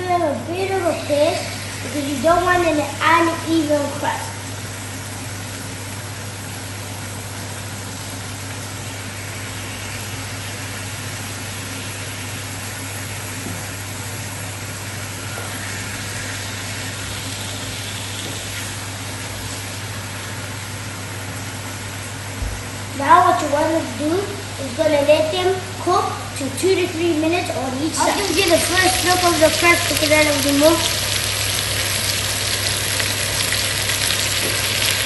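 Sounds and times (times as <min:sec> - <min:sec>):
constant low hum: 0:00.0 - 0:35.0
chicken sizzling in hot oil: 0:00.2 - 0:26.4, 0:27.9 - 0:35.0.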